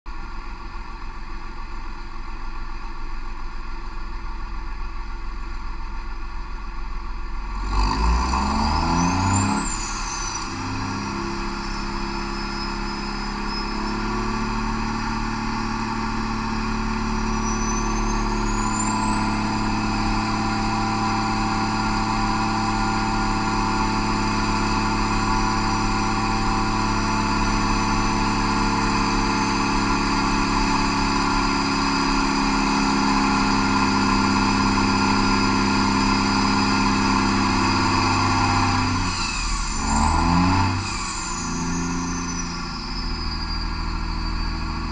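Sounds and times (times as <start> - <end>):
diesel engine running under load: 0.1 - 44.9.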